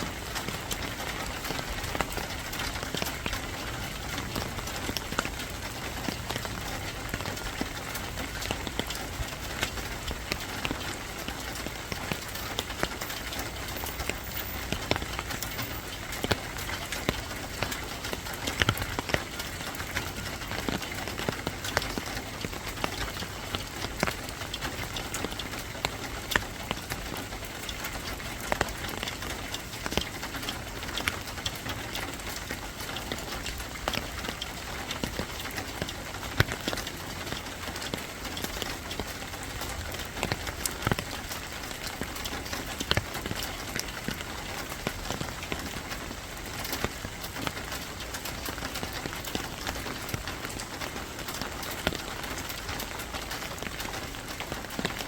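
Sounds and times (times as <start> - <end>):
raindrops ticking on surface: 0.0 - 55.0
steady rain: 0.0 - 55.0.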